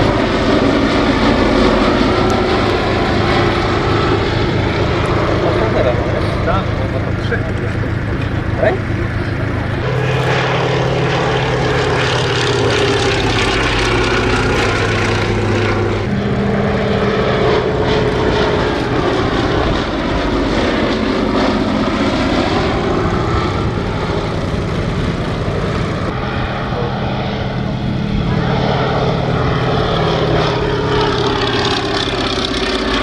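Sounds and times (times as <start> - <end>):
propeller plane engine flying past: 0.0 - 33.0.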